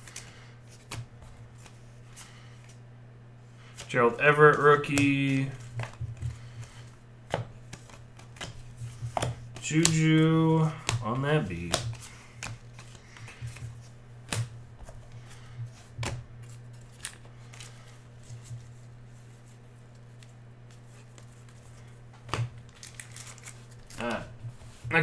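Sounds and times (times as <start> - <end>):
cards shuffling and rustling: 0.0 - 2.8, 3.6 - 25.0
steady low hum: 0.0 - 25.0.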